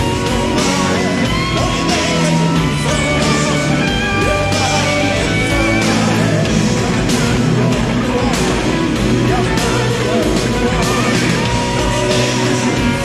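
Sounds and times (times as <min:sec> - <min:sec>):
bass guitar: 0:00.0 - 0:13.0
drums with cymbal hits: 0:00.0 - 0:13.0
electric guitar lead: 0:00.0 - 0:13.0
rock band playing loudly: 0:00.0 - 0:13.0.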